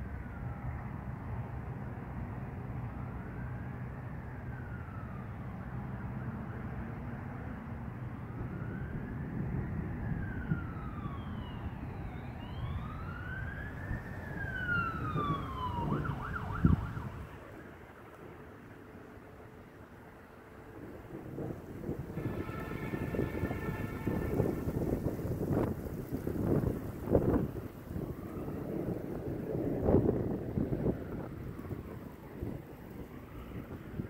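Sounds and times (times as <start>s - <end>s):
emergency siren wailing: 0.0s - 34.0s.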